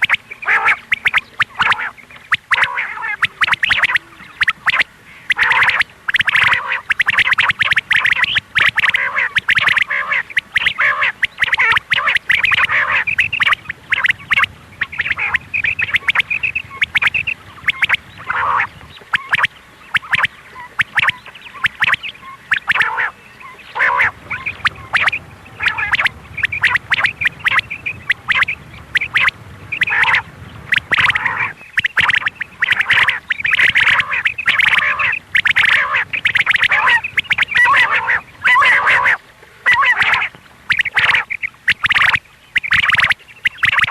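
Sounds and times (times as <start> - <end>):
quail calling: 0.0 - 43.9.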